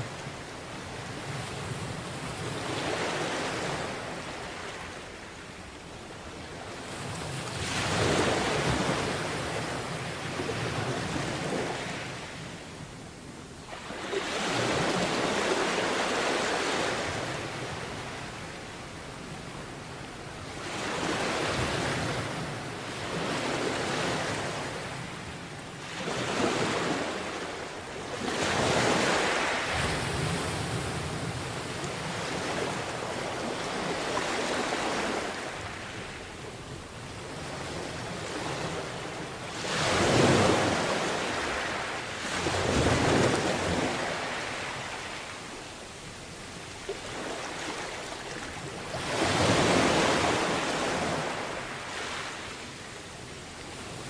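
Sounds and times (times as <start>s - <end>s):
sea waves breaking on beach: 6.5s - 12.3s, 13.7s - 18.5s, 20.4s - 54.0s.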